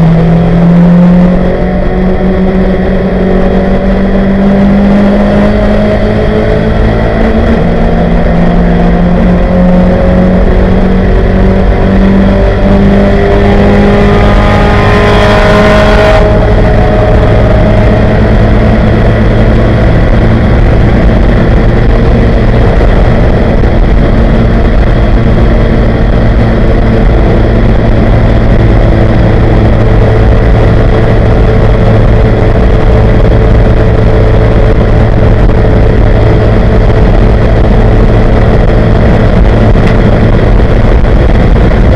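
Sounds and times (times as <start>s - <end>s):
race car engine at full throttle: 0.0s - 41.9s
wind and road noise: 0.0s - 41.9s.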